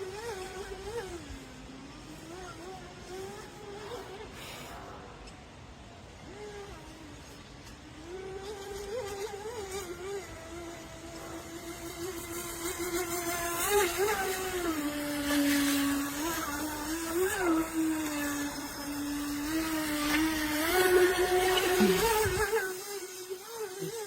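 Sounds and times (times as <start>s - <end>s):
electric boat motor whining: 0.0s - 4.4s, 5.8s - 24.0s.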